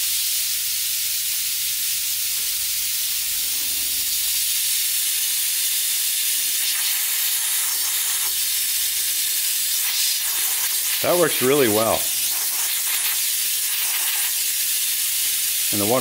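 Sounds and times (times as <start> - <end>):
air mister hissing: 0.0 - 16.0.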